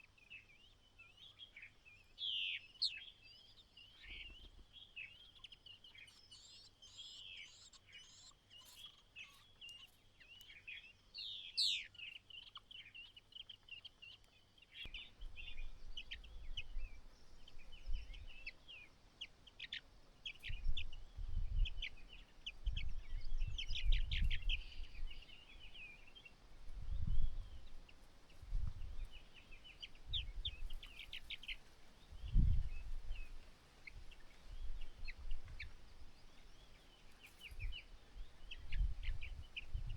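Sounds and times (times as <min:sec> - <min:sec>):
birds chirping and chattering: 0:02.0 - 0:39.9.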